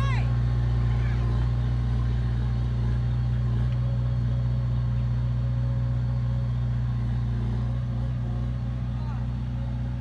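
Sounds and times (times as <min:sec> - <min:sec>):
heavy diesel engine drone: 0:00.0 - 0:10.0.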